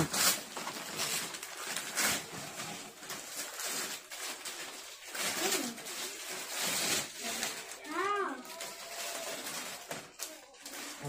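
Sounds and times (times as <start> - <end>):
gift wrap and packaging crinkling: 0.0 - 11.0.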